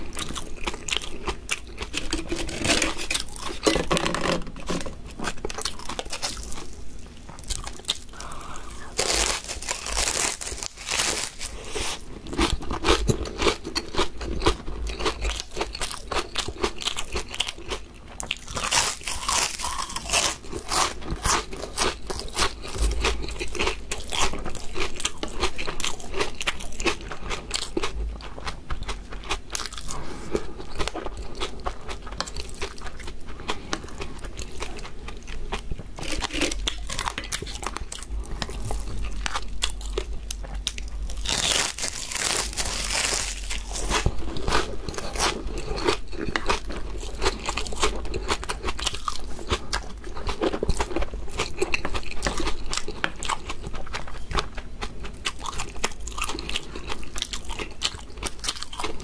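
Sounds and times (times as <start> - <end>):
crunching and chewing crisp chips: 0.0 - 59.0.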